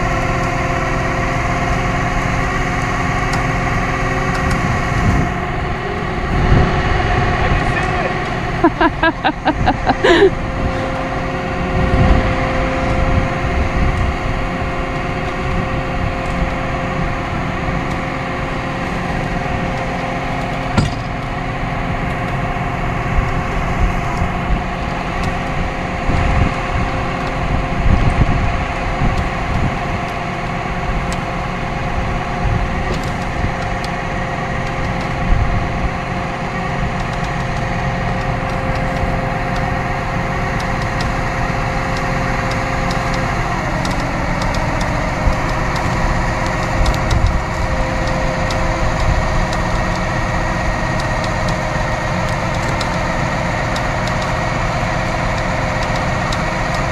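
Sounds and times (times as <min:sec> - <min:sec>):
tow truck engine whining: 0:00.0 - 0:56.9.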